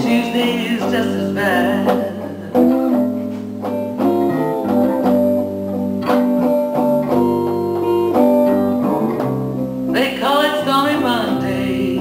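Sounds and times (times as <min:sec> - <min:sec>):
bass guitar: 0:00.0 - 0:12.0
electric guitar chords: 0:00.0 - 0:12.0.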